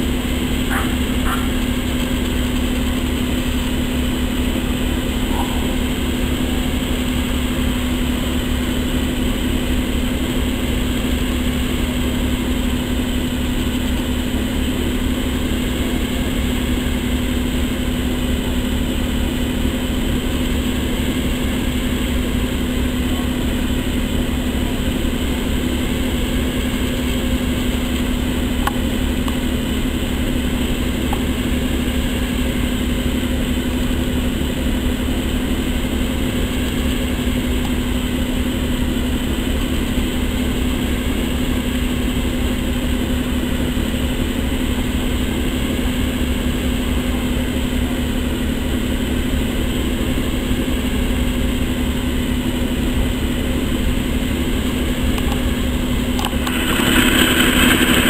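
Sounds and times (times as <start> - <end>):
diesel locomotive engine idling: 0.0 - 58.0.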